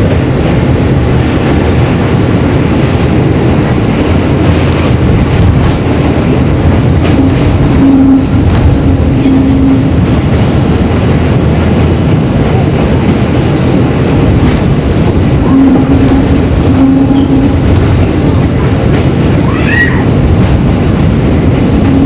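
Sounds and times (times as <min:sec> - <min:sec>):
subway wheels rumbling on rail: 0:00.0 - 0:22.0.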